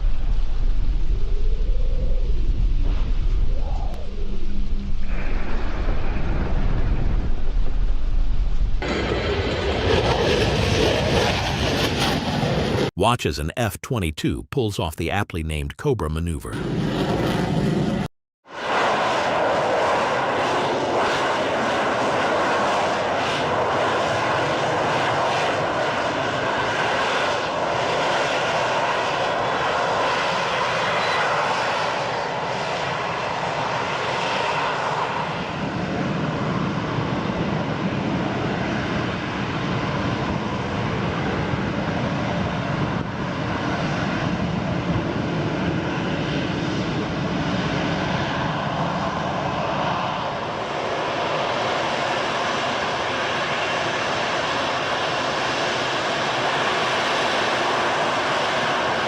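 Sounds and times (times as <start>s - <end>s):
jet aircraft engine noise: 0.0s - 13.7s, 16.5s - 59.0s.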